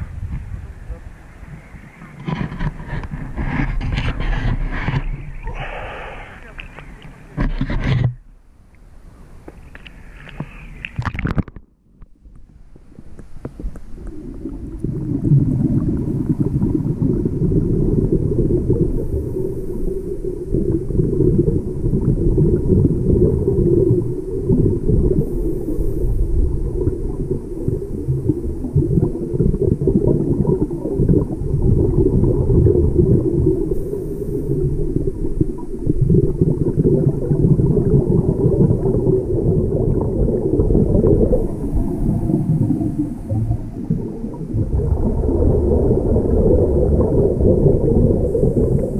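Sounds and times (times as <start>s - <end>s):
muffled underwater rumbling: 0.0s - 48.9s.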